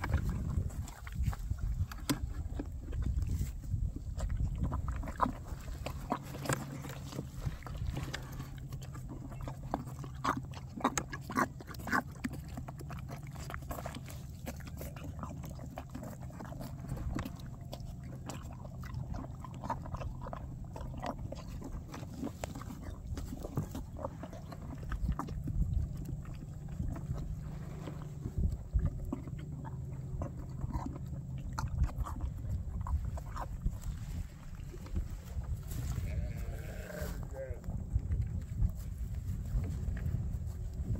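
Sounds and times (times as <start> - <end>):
foal slurping and chewing: 0.0 - 40.9.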